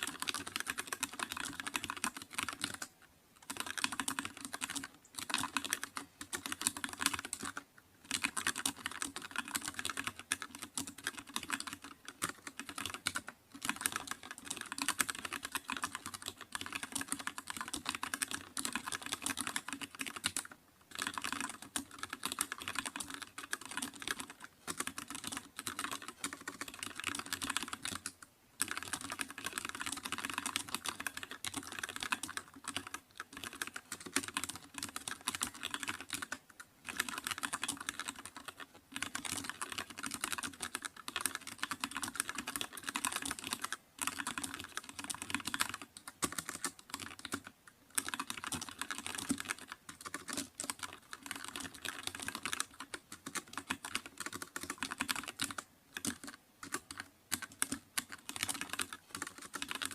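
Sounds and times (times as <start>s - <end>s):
fast typing on a keyboard: 0.0s - 59.9s.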